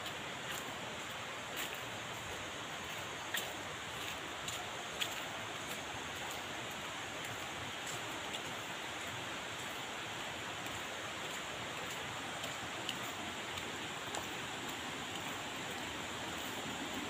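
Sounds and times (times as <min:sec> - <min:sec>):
flowing river water: 0:00.0 - 0:17.0.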